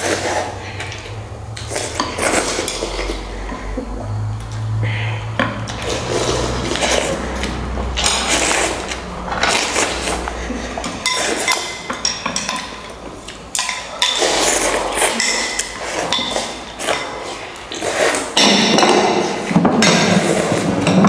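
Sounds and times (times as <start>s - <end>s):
utensils clinking against bowls: 0.0s - 4.7s, 5.4s - 21.0s.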